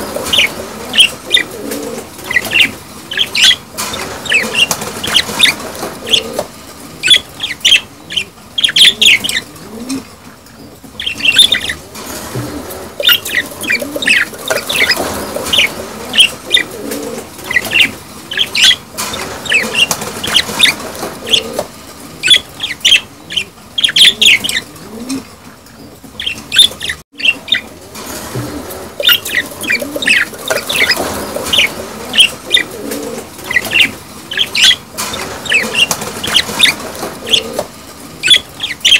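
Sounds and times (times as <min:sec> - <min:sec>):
budgerigars chattering and chirping: 0:00.0 - 0:01.6, 0:02.2 - 0:09.6, 0:10.4 - 0:11.8, 0:12.6 - 0:16.8, 0:17.4 - 0:24.8, 0:25.6 - 0:27.7, 0:29.0 - 0:38.9.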